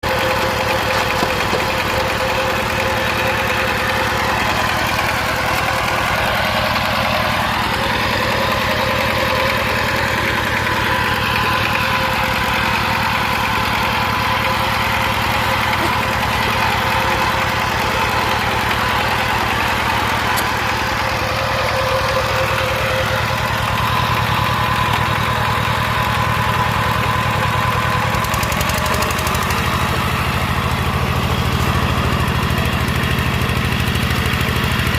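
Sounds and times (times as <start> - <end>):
diesel tractor engine under load: 0.0 - 34.9.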